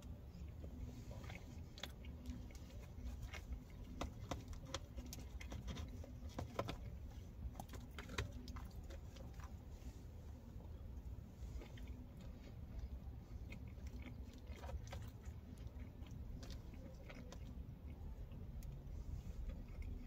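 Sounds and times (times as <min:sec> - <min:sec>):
chewing soft food: 0:00.0 - 0:20.0.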